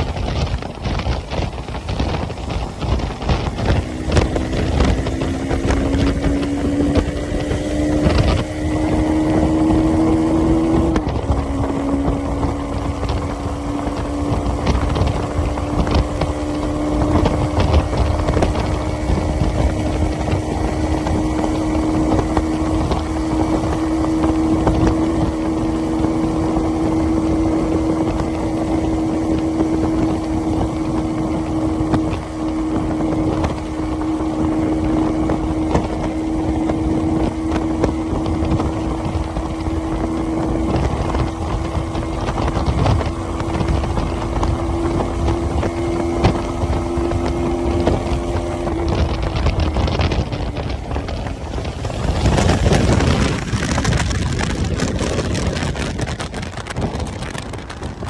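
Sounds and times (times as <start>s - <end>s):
motorcycle engine running: 0.0s - 58.0s
road rumble: 0.0s - 58.0s
wind: 0.0s - 58.0s.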